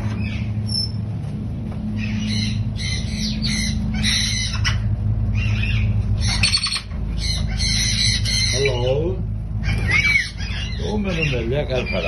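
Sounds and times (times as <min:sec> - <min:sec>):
steady low hum: 0:00.0 - 0:12.0
parrots squawking: 0:01.9 - 0:12.0.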